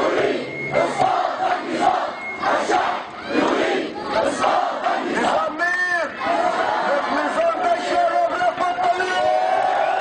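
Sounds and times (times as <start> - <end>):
crowd chanting and shouting: 0.0 - 10.0.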